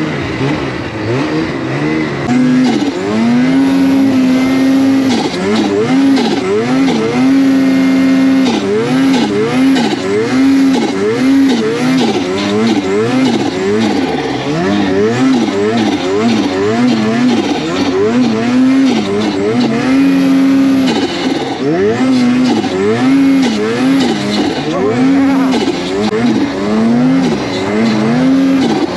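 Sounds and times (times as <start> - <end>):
snowmobile engine revving: 0.0 - 28.9.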